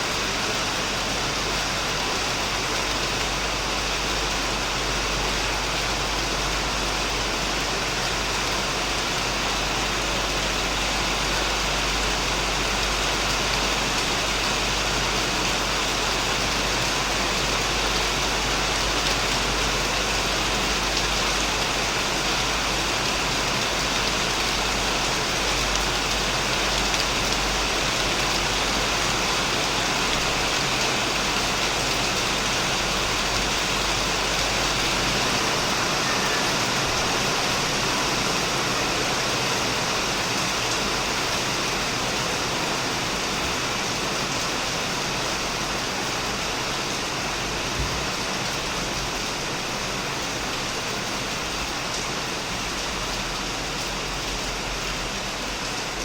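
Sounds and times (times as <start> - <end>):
heavy rain on a shed roof: 0.0 - 56.0.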